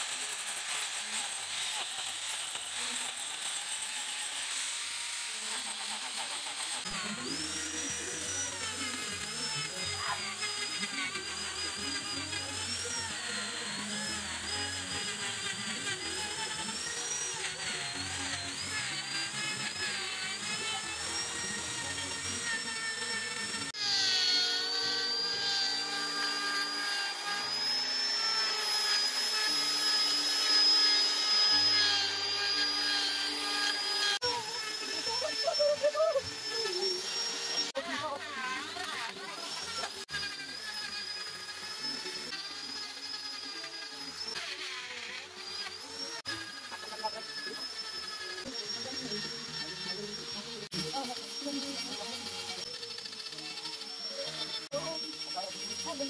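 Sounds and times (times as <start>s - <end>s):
electric grinder whining: 0.0s - 56.0s.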